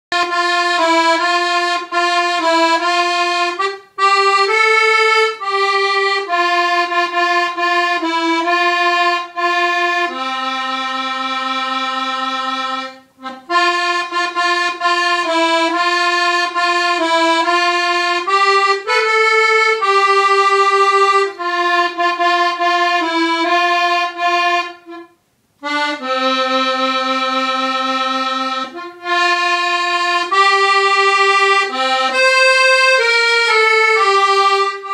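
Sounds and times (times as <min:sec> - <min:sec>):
accordion melody: 0:00.1 - 0:34.9.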